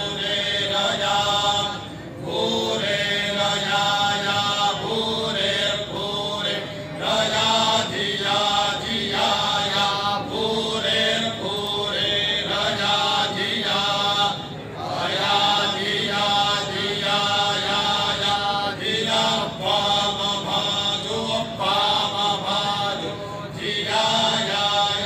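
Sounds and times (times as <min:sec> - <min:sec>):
men chanting in unison: 0:00.0 - 0:25.0.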